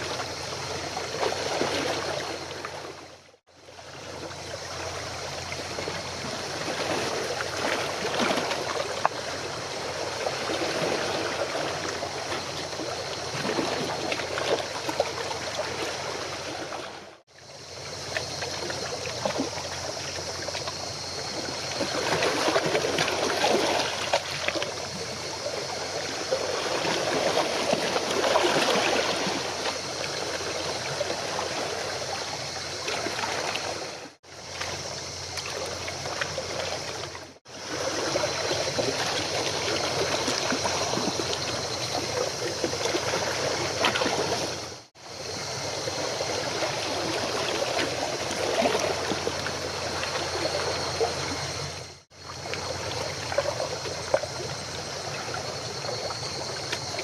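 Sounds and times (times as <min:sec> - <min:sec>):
sea water splashing: 0:00.0 - 0:57.0.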